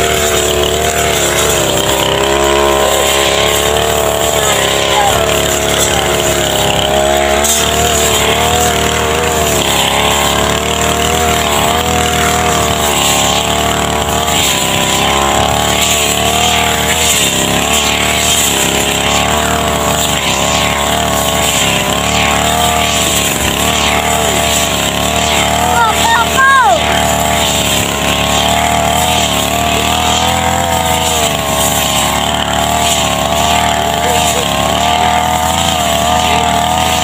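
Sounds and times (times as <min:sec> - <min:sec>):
brush cutter engine cutting grass: 0:00.0 - 0:37.0.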